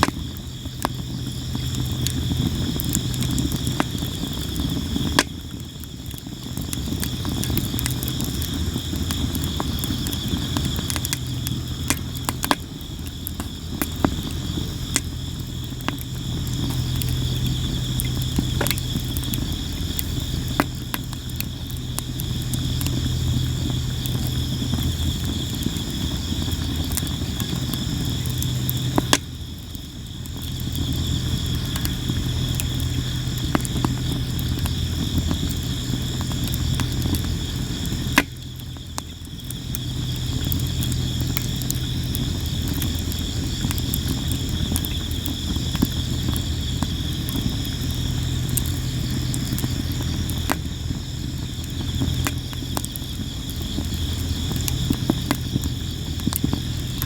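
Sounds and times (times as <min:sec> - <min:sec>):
crickets chirring: 0:00.0 - 0:57.0
wood fire crackling and popping: 0:00.0 - 0:57.0.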